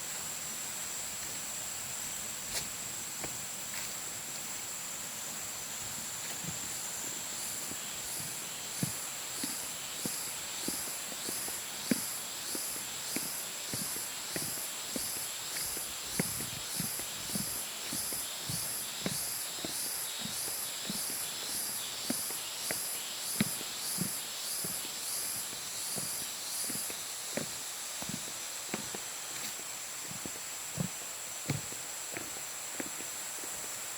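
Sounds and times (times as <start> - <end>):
insects chirring: 0.0 - 33.9
footsteps on a trail: 2.4 - 4.5, 5.8 - 33.9.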